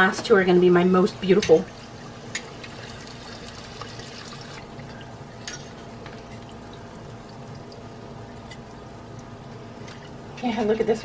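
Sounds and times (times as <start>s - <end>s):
oil sizzling and bubbling: 0.7s - 10.4s.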